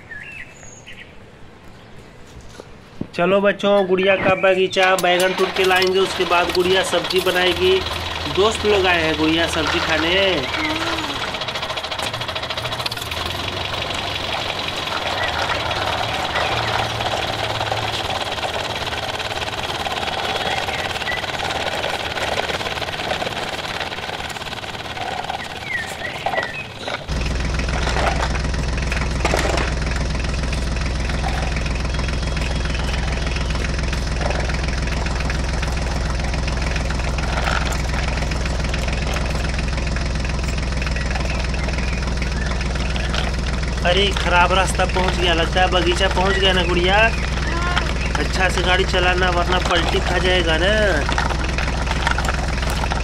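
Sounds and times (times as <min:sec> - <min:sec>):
deep steady engine sound: 0:04.1 - 0:53.0
tractor engine running: 0:04.3 - 0:53.0.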